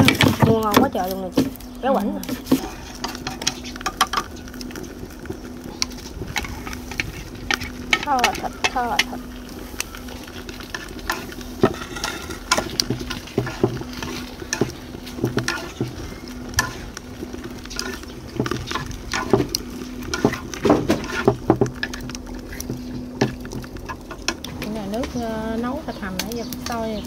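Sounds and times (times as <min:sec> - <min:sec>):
chopsticks scraping clay pot: 0:00.0 - 0:04.8, 0:05.8 - 0:25.2
meat sizzling: 0:00.0 - 0:27.0.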